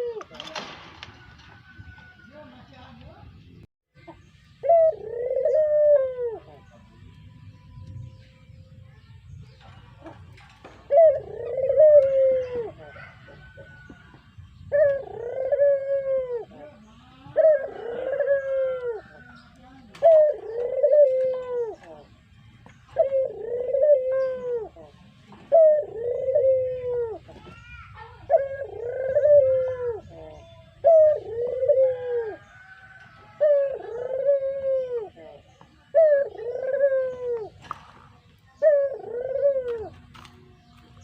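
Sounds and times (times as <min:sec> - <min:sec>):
dove cooing: 0:00.0 - 0:01.3, 0:04.5 - 0:06.8, 0:09.8 - 0:22.2, 0:22.9 - 0:40.3.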